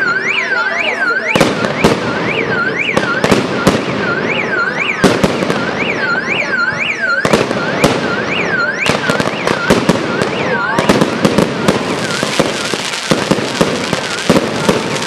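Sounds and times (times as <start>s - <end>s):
car alarm wailing: 0.0s - 15.0s.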